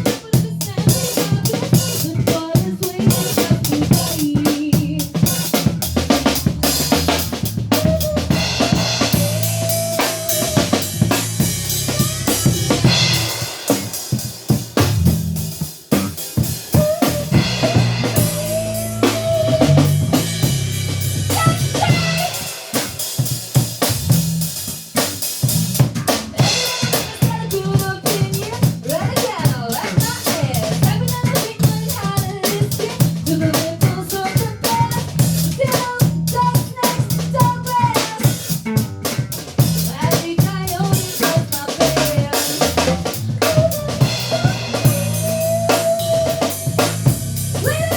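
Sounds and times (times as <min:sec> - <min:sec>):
bass line: 0:00.0 - 0:37.9, 0:38.6 - 0:47.9
drum kit beat: 0:00.0 - 0:47.9.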